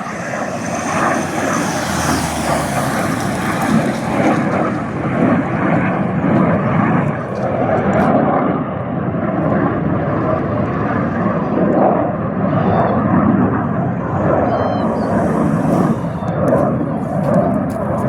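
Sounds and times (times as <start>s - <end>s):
jet departing: 0.0s - 18.0s.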